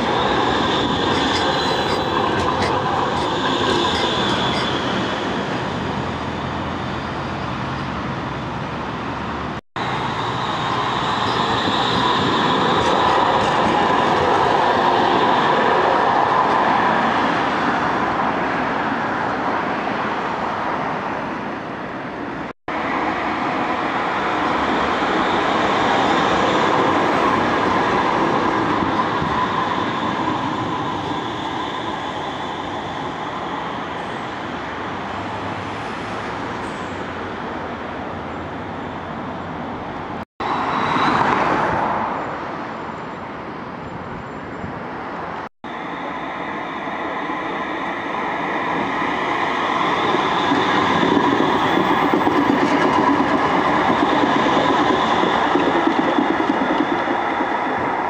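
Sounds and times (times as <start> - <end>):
tram rumbling along track: 0.0 - 58.0.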